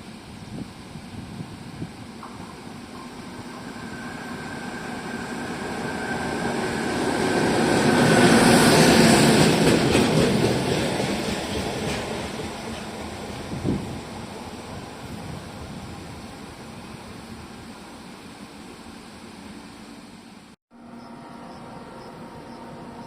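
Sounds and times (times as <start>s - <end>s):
train passing: 0.2s - 23.0s.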